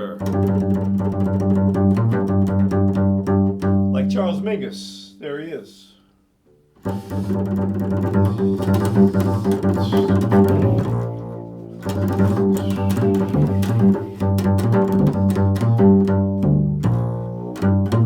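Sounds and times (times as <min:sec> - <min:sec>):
double bass plucked: 0:00.0 - 0:05.2, 0:06.5 - 0:18.0.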